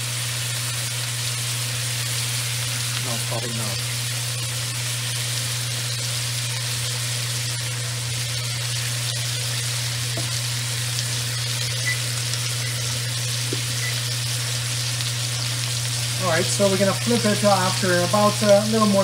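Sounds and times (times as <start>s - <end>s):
steak sizzling in a pan: 0.0s - 19.0s
steady low hum: 1.8s - 18.9s.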